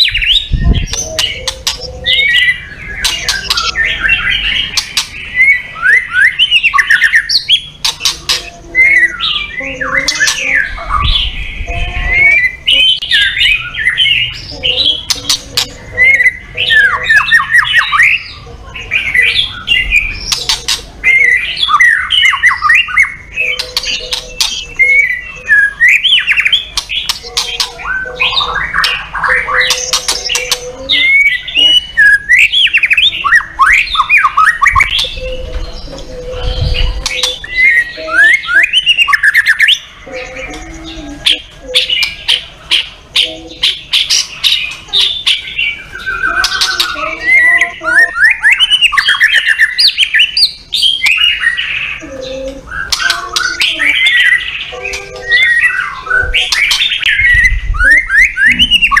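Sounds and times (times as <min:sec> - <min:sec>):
songbird singing whistled phrases: 0:00.0 - 0:18.4, 0:19.0 - 0:59.0.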